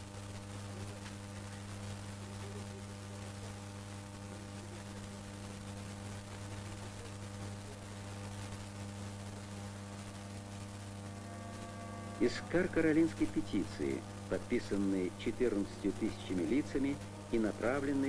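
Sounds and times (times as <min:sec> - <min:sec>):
low electrical mains hum: 0:00.0 - 0:18.0.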